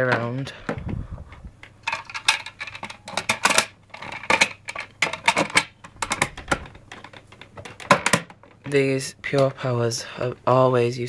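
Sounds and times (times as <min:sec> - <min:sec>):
plastic parts clicking and rattling: 0:00.0 - 0:09.5.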